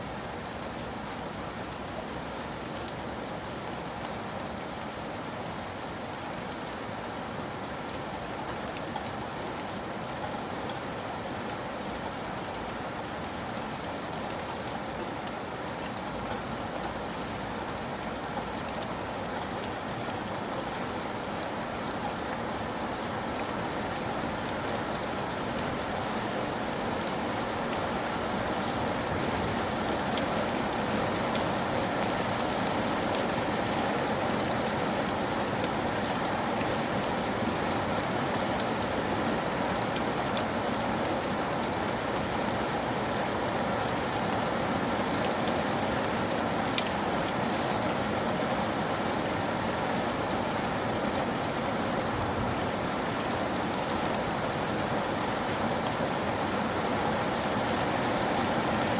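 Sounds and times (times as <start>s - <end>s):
rain drops pattering: 0.0s - 58.9s.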